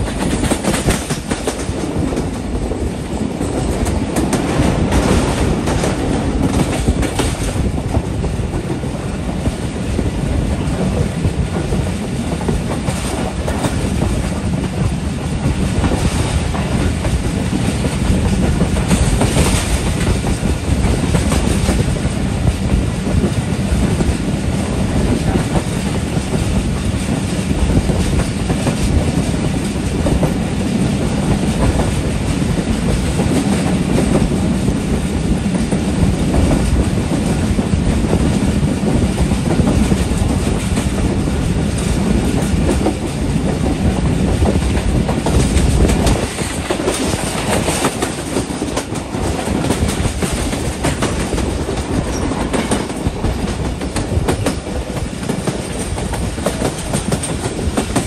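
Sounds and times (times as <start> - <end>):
train wheels rumbling and clattering: 0.0 - 58.0.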